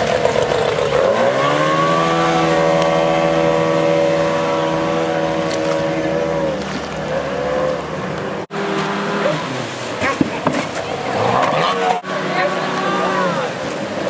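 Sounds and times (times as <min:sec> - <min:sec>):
outboard motor revving: 0:00.0 - 0:14.0
whitewater rapids: 0:00.0 - 0:14.0.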